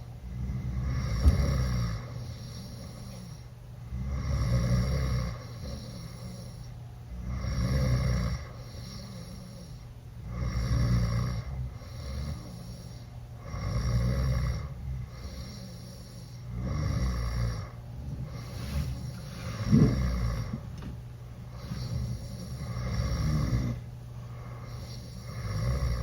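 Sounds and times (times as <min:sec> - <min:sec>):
quiet breathing: 0:00.0 - 0:26.0
boy snoring loudly: 0:00.3 - 0:06.6, 0:07.2 - 0:20.6, 0:21.5 - 0:23.8, 0:24.6 - 0:26.0.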